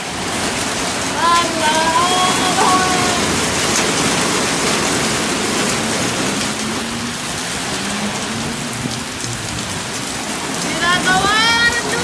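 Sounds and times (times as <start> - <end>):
heavy rain pouring: 0.0 - 12.0
strong wind: 0.0 - 12.0.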